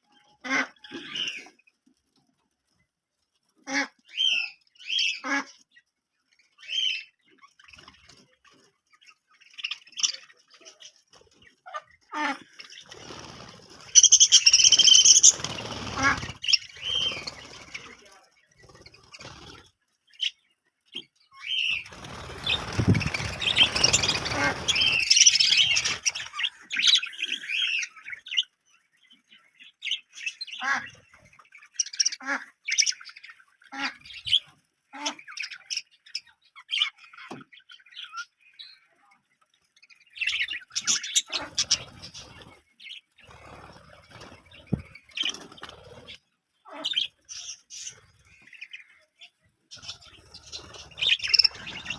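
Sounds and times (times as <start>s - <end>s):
budgerigars chirping: 3.6s - 5.8s, 9.0s - 38.8s, 39.9s - 51.9s.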